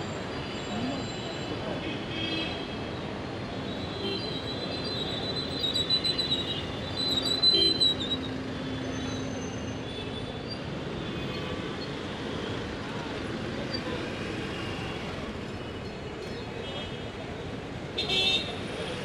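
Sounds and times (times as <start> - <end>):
dense road traffic: 0.0 - 19.0.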